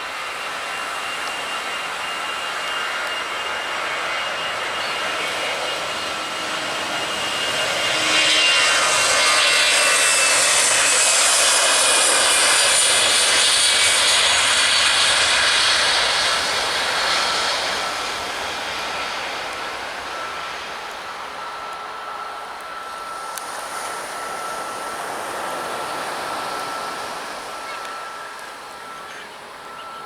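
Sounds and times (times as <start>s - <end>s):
airliner engines passing: 0.0s - 30.0s.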